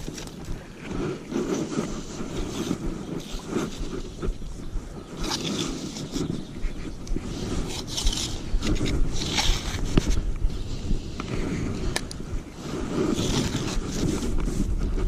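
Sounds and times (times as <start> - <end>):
hands rustling fishing tackle: 0.0 - 15.0
wind rumbling on microphone: 0.0 - 15.0.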